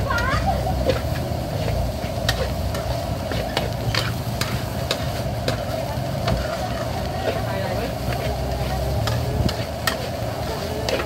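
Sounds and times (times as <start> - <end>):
rice sizzling: 0.0 - 11.0
metal spatula scraping a wok: 0.1 - 11.0.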